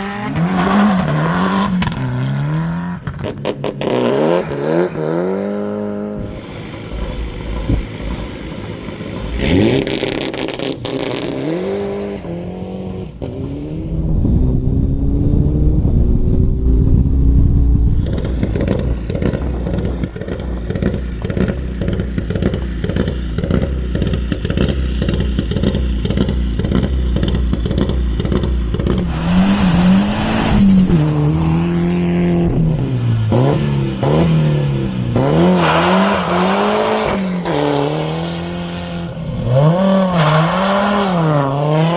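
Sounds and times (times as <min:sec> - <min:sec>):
rally car engine accelerating: 0:00.0 - 0:41.9.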